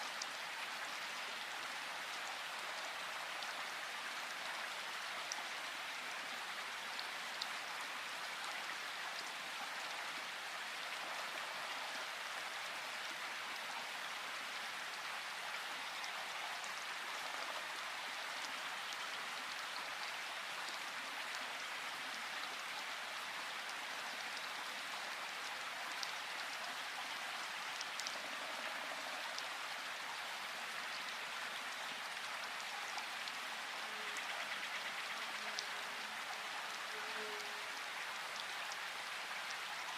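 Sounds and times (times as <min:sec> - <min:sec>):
rain hissing in a forest: 0:00.0 - 0:39.9.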